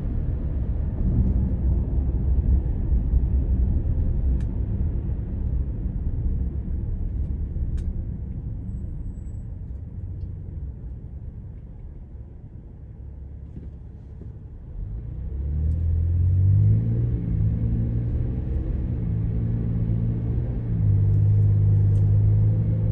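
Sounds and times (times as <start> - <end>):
road and tyre noise on wet road: 0.0 - 22.9.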